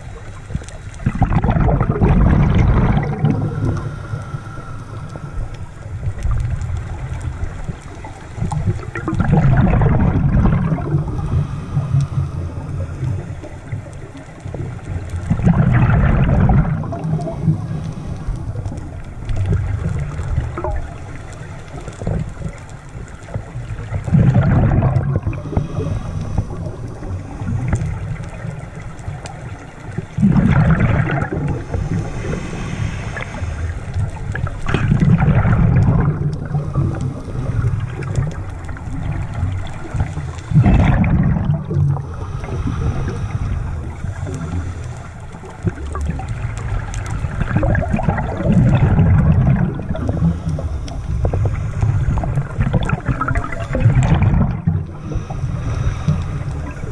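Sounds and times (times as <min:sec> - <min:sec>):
low underwater rumble: 0:00.0 - 0:56.9
underwater exhaled bubbles gurgling: 0:00.0 - 0:56.9.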